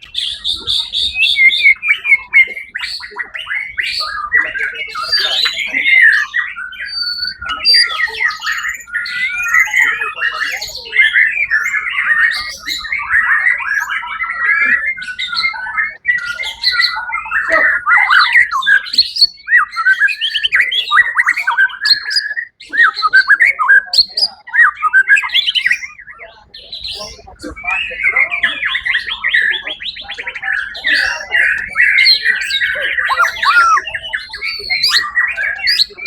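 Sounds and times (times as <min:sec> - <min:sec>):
bird singing whistled phrases: 0:00.0 - 0:36.0.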